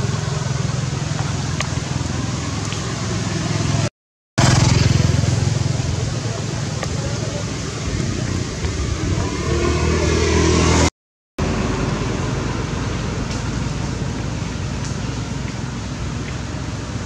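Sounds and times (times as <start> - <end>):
steady outdoor hiss: 0.0 - 10.8, 11.4 - 17.0
vehicle engine approaching: 0.0 - 17.0.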